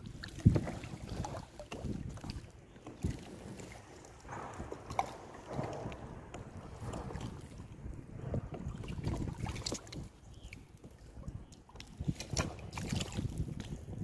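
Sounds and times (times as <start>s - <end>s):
water lapping against kayak: 0.0s - 14.0s.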